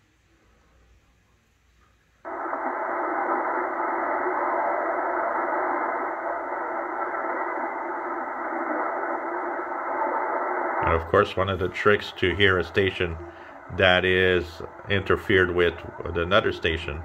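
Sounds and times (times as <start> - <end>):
thin shortwave radio broadcast: 2.3 - 17.0.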